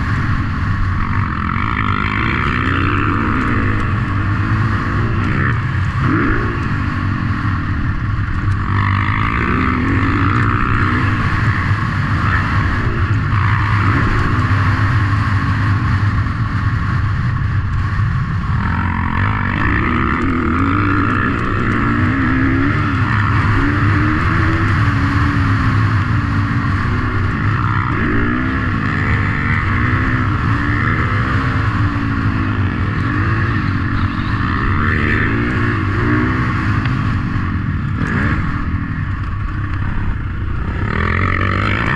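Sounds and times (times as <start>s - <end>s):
motocross engines revving: 0.0s - 41.9s.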